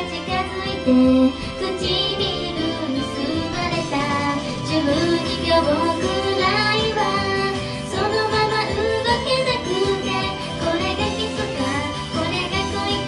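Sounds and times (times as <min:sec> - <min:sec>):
pop backing track: 0:00.0 - 0:13.0
woman singing into microphone: 0:00.0 - 0:13.0.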